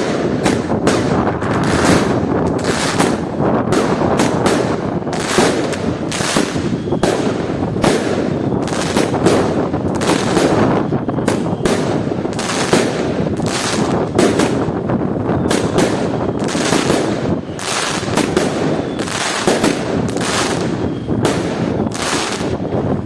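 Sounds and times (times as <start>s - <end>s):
continuous rumbling: 0.0s - 23.0s
firework bangs and bursts: 0.0s - 23.0s.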